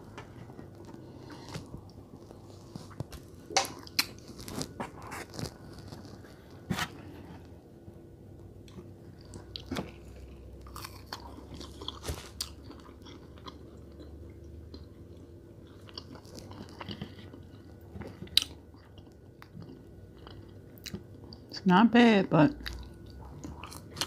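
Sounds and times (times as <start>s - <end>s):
person chewing food: 0.1s - 7.6s, 8.4s - 21.5s, 22.6s - 24.0s.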